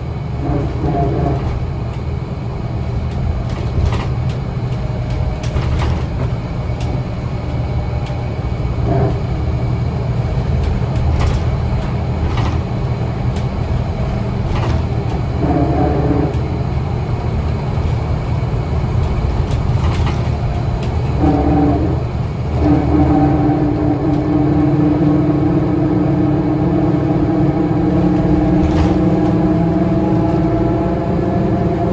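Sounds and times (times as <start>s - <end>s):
bus engine rumbling: 0.0s - 31.9s
rattles and clicks: 3.0s - 31.9s.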